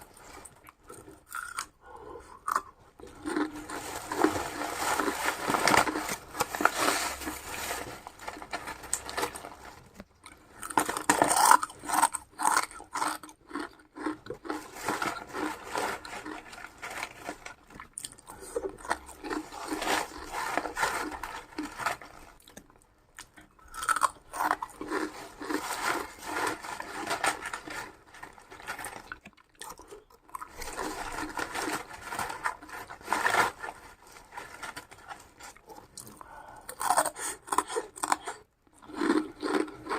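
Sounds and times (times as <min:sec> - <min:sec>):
person chewing crunchy food: 0:00.0 - 0:07.7, 0:08.4 - 0:27.1, 0:27.9 - 0:32.6, 0:35.2 - 0:39.9.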